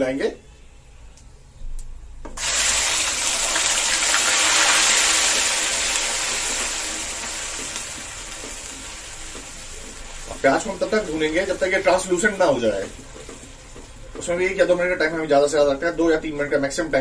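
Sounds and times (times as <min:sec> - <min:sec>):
onion paste sizzling in hot fat: 0:02.4 - 0:17.0.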